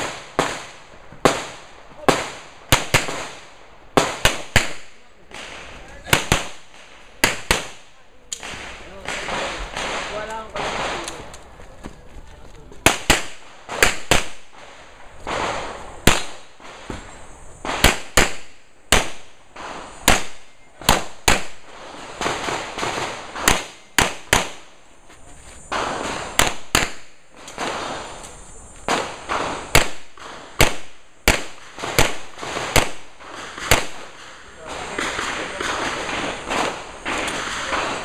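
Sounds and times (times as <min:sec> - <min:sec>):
pistol shots: 0:00.0 - 0:11.2, 0:12.8 - 0:17.0, 0:17.6 - 0:24.7, 0:25.7 - 0:28.3, 0:28.9 - 0:38.0.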